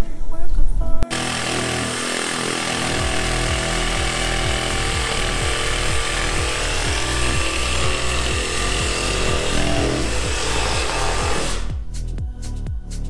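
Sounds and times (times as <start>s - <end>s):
reciprocating saw cutting panel: 1.0s - 11.7s.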